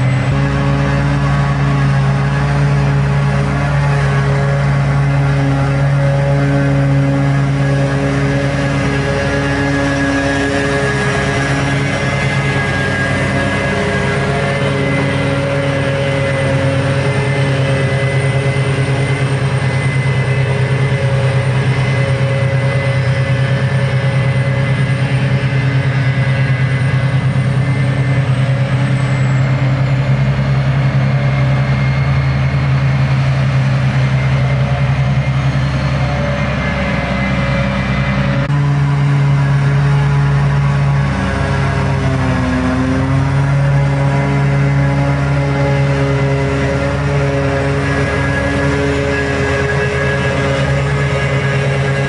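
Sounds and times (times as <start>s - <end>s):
heavy engine drone with whine: 0.0s - 52.0s.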